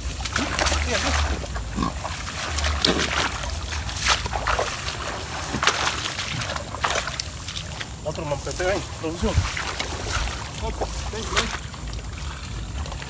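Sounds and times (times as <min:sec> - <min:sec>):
grass stems rustling: 0:00.0 - 0:12.1
water splashing and sloshing: 0:00.0 - 0:13.0.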